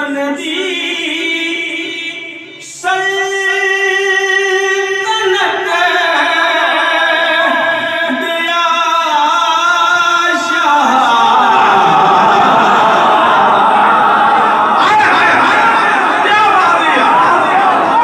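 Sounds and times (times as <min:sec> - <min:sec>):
man chanting in long held notes: 0:00.0 - 0:18.0.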